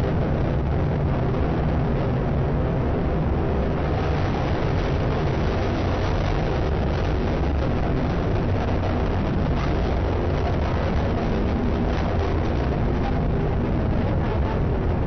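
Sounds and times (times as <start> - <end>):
rocket engine deep rumble: 0.0 - 15.0.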